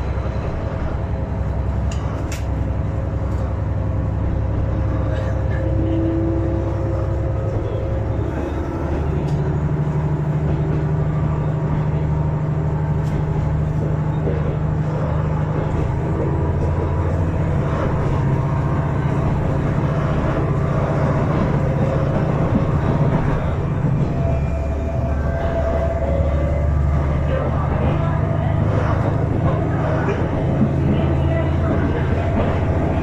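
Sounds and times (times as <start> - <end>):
low train drive hum: 0.0 - 33.0
train wheels rumbling on rail: 0.0 - 33.0.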